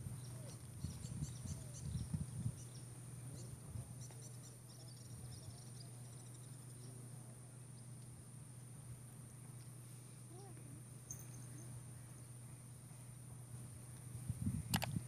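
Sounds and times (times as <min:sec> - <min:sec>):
low steady hum: 0:00.0 - 0:15.0
night insects chirping: 0:00.0 - 0:15.0.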